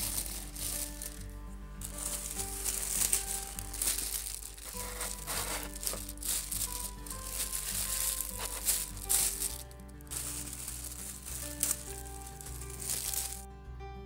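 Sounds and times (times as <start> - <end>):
cellophane crinkling: 0.0 - 13.4
instrumental background music: 0.0 - 14.0.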